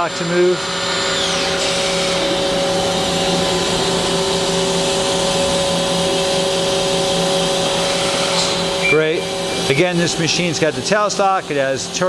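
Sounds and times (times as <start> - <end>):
lathe machine humming: 0.0 - 12.0.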